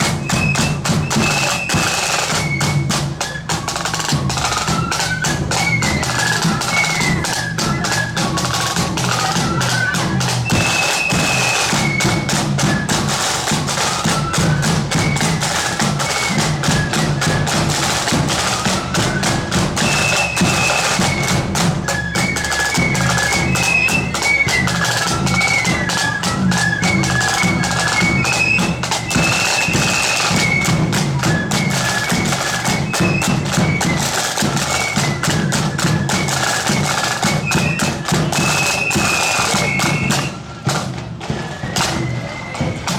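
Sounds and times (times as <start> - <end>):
flute band melody: 0.0 - 42.9
rapid snare drumming: 0.0 - 42.9.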